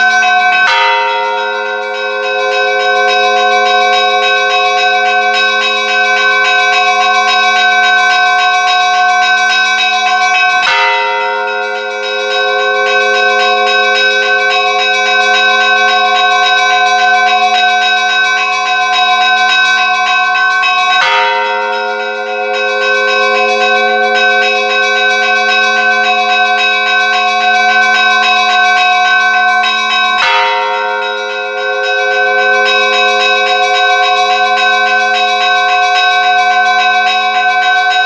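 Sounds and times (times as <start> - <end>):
heavy bell striking: 0.0 - 38.0
small church bells ringing: 0.0 - 38.0.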